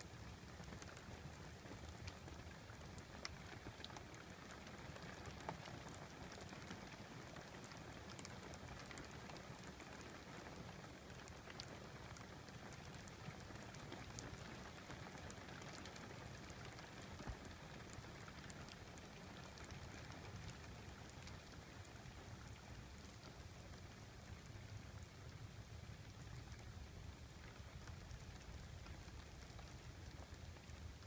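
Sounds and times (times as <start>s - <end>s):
faint rain falling: 0.0s - 31.0s.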